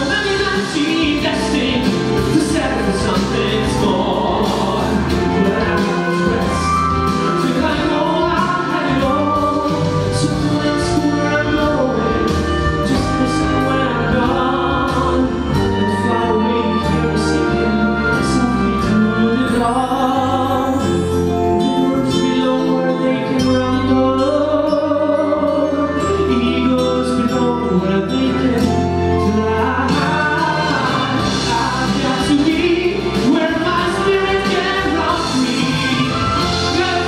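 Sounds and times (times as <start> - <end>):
instrumental accompaniment: 0.0 - 37.0
man singing ballad: 0.0 - 37.0.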